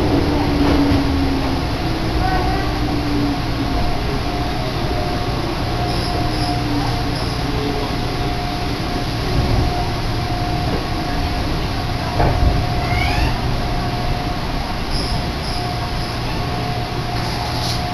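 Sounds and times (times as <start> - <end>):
constant hum: 0.0 - 17.9
train car rumble: 0.0 - 17.9.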